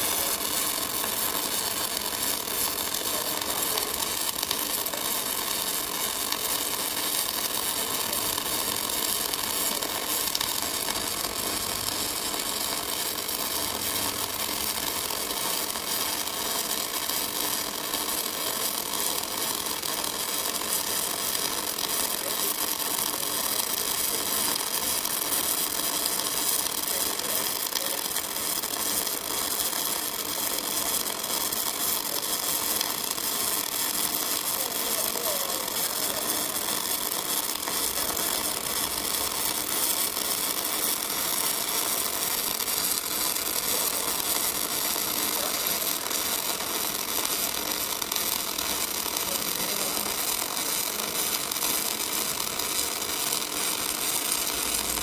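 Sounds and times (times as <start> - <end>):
welding arc buzzing hiss: 0.0 - 55.0.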